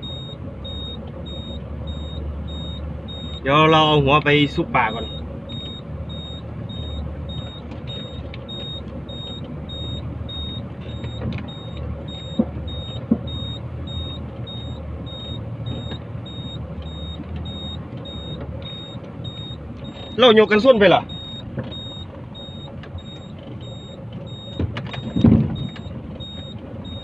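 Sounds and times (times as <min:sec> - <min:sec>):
reversing alarm beeping: 0:00.0 - 0:27.0
truck diesel engine running: 0:00.0 - 0:27.0.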